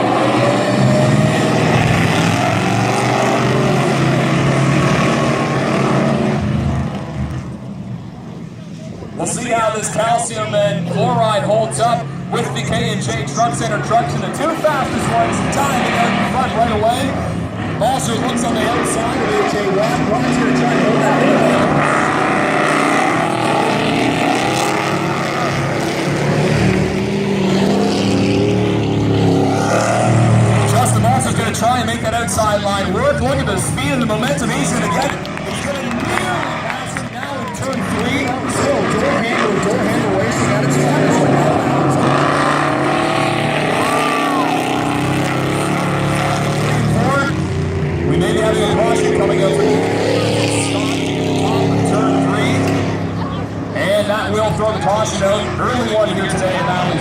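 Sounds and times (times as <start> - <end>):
race truck engines running hard: 0.0 - 57.0.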